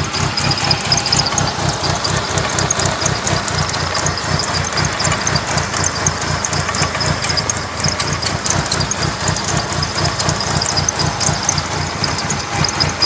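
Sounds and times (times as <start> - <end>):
car engine idling roughly: 0.0 - 13.0
engine ticking: 0.0 - 13.0
pulsing exhaust beat: 0.0 - 13.0.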